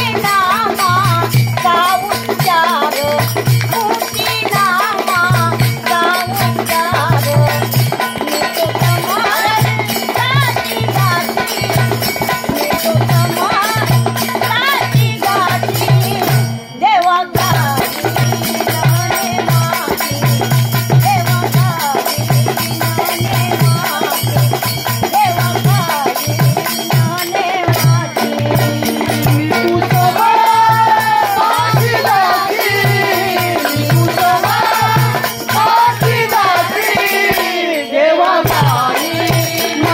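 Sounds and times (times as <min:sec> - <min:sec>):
pulsing drum beat: 0:00.0 - 0:16.6, 0:17.4 - 0:39.9
woman singing: 0:00.0 - 0:39.9.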